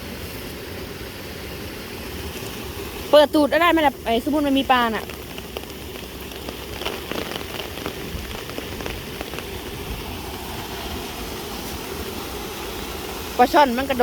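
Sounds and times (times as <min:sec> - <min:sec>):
water rushing: 0:00.0 - 0:14.0
water drops ticking: 0:02.4 - 0:14.0.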